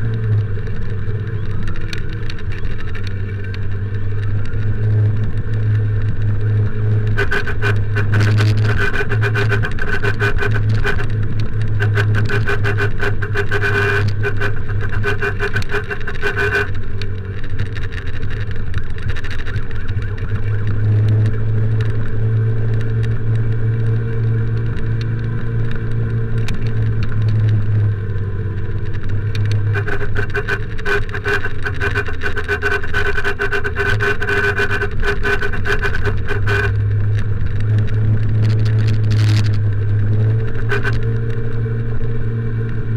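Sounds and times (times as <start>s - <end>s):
motorcycle engine hum: 0.0s - 42.9s
wind rumble on microphone: 0.0s - 42.9s.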